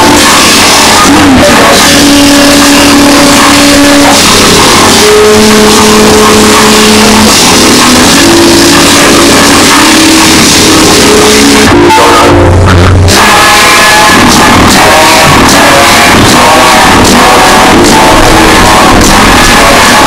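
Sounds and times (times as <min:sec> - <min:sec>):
distorted electronic noise: 0:00.0 - 0:20.0
held electronic notes: 0:00.0 - 0:20.0.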